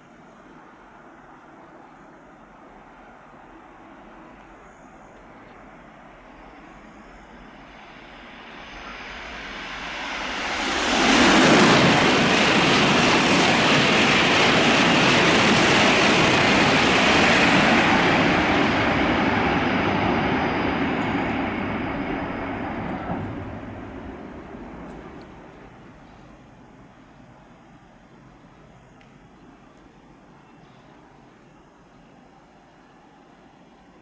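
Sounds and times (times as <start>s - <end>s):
high-speed train passing: 0.0s - 34.0s.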